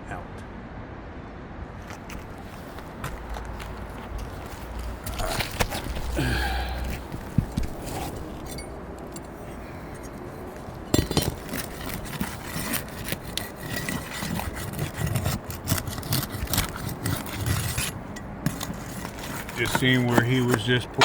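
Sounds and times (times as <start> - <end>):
roof shingles scraping and crackling: 1.9 - 21.0.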